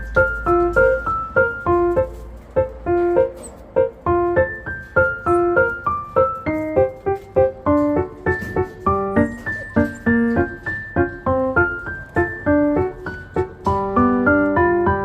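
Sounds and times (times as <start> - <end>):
bouncy piano melody: 0.0 - 15.0.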